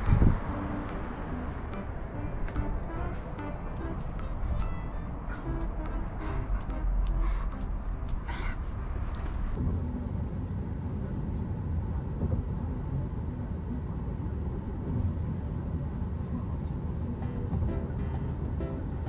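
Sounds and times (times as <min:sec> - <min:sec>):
steady low rumbling: 0:00.0 - 0:19.0.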